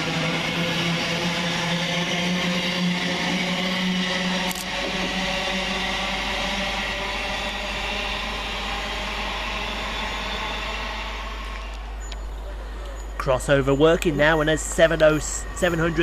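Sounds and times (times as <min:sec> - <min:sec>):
electric train rolling: 0:00.0 - 0:16.0
low hum: 0:00.0 - 0:16.0
train motor whine: 0:00.0 - 0:16.0.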